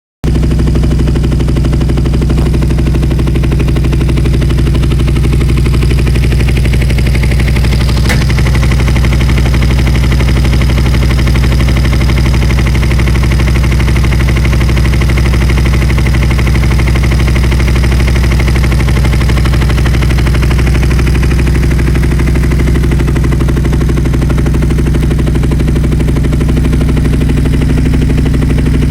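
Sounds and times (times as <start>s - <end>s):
motorcycle engine idling: 0.2s - 28.9s.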